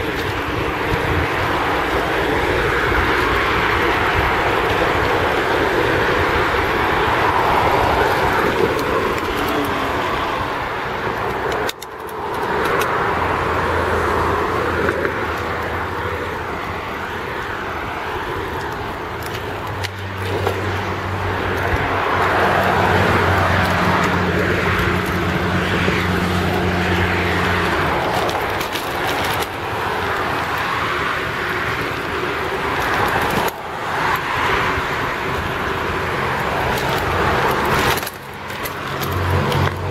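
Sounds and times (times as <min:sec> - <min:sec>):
road traffic rushing: 0:00.0 - 0:39.9.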